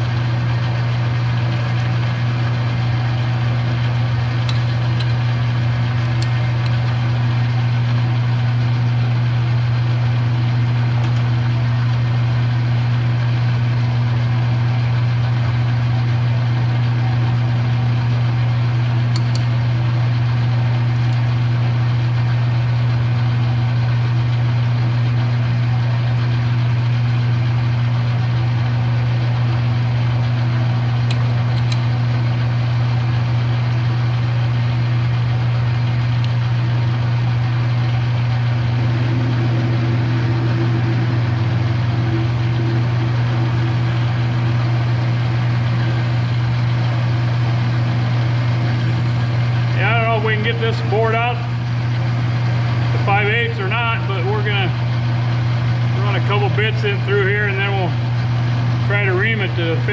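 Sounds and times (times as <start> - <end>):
metal lathe motor hum: 0.0 - 59.9.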